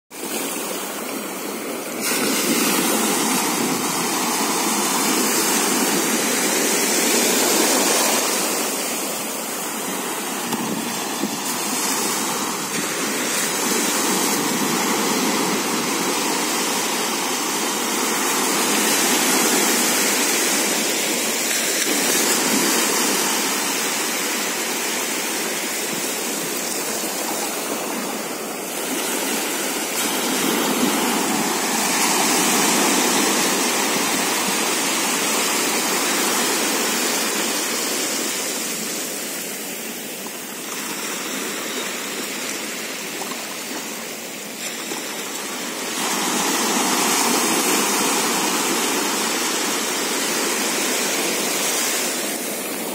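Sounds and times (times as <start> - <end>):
waves washing on sandy beach: 0.1 - 52.9.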